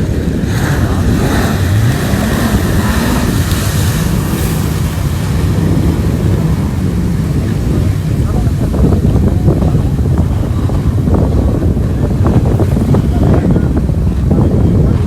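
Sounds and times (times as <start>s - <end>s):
jet ski engine revving: 0.0s - 15.0s
wind on microphone: 0.0s - 15.0s.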